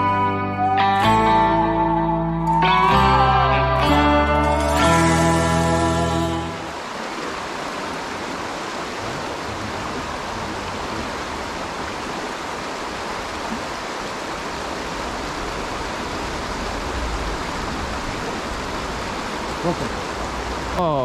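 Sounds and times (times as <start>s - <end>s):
stream rushing over rocks: 3.8s - 21.0s.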